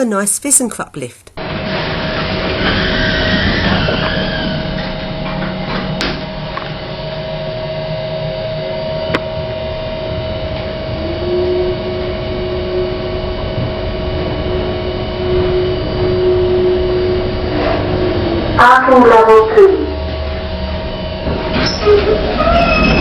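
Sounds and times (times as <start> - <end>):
lift hum and whine: 1.2 - 23.0
lower whine: 1.4 - 23.0.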